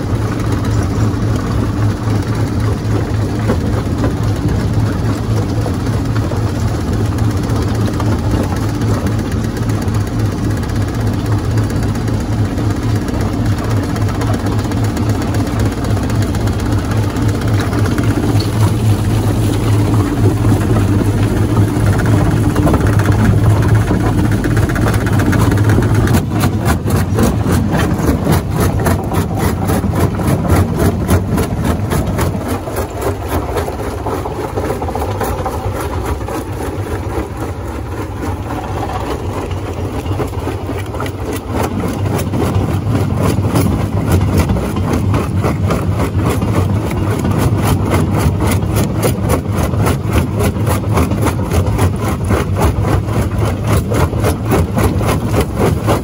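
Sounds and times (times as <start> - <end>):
fast even mechanical pulsing: 0.0 - 56.0
rock crusher drone: 0.0 - 56.0.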